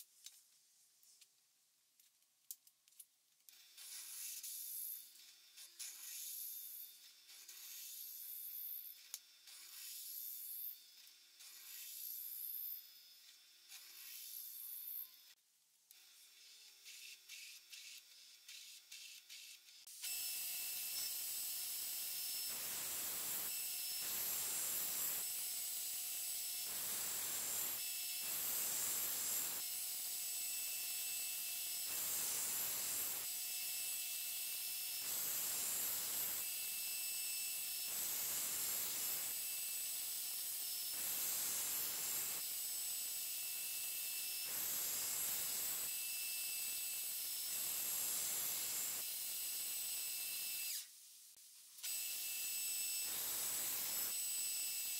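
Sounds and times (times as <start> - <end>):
belt grinder hiss and whine: 3.5 - 15.4, 16.0 - 51.0.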